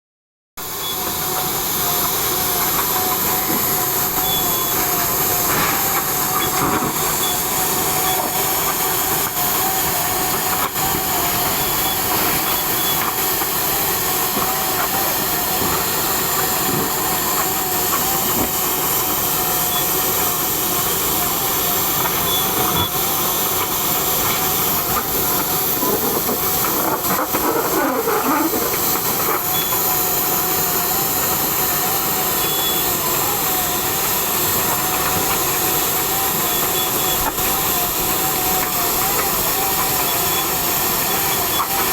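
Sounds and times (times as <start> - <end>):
machine hissing with a whine: 0.6 - 41.9.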